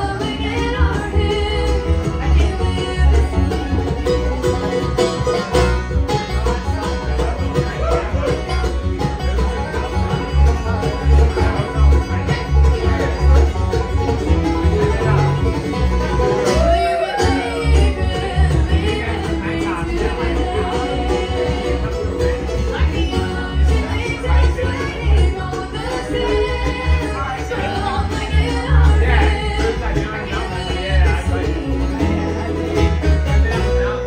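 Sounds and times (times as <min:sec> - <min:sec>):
bluegrass band playing: 0:00.0 - 0:34.0
upright bass notes: 0:00.0 - 0:34.0.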